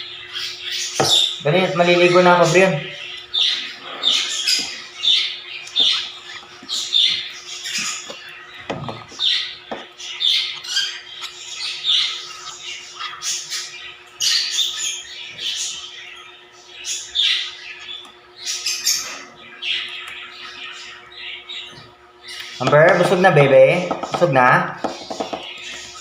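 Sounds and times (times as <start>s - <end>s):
bird chicks squawking: 0.0s - 26.0s.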